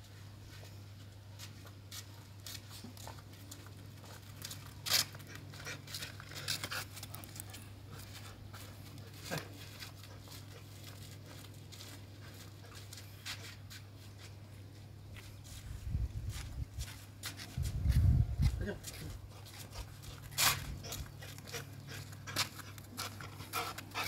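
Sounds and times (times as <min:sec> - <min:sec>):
footsteps on stone paving: 0:00.4 - 0:24.0.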